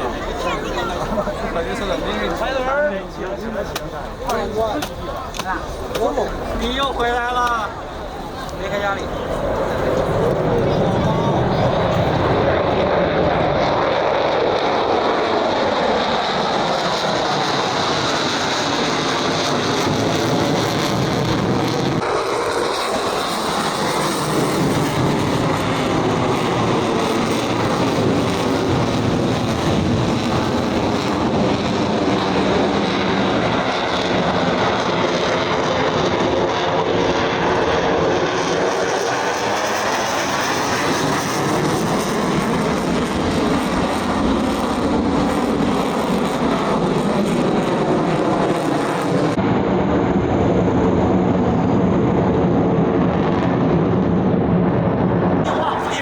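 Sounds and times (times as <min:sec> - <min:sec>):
aircraft engine flying past: 0:00.0 - 0:56.0.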